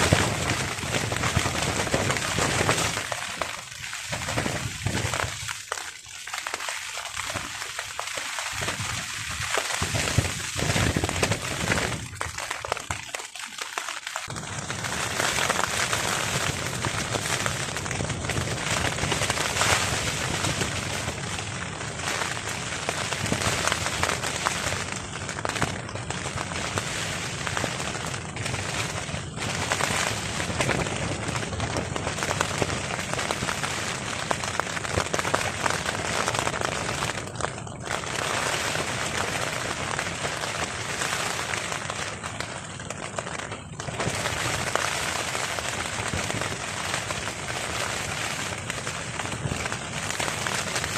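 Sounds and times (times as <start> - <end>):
heavy rain drumming on a tarp: 0.0 - 50.9.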